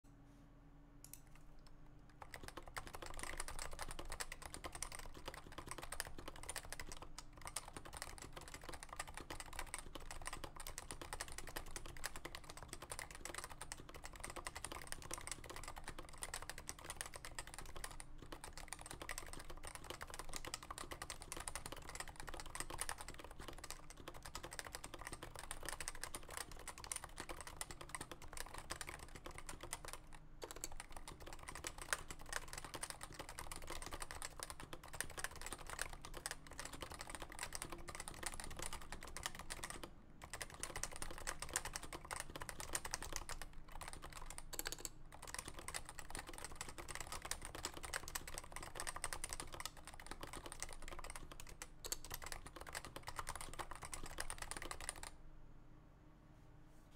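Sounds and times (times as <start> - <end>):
keyboard typing: 1.1 - 55.2.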